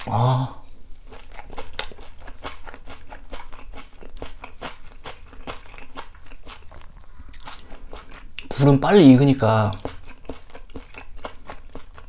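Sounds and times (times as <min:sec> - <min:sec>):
person chewing crunchy food: 0:00.9 - 0:12.0.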